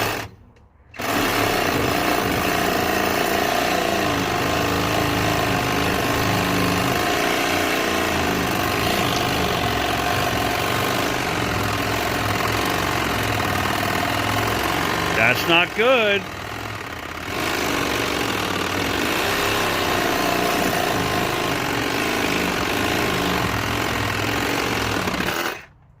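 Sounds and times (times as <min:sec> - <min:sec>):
reciprocating saw cutting metal: 0:01.0 - 0:25.7.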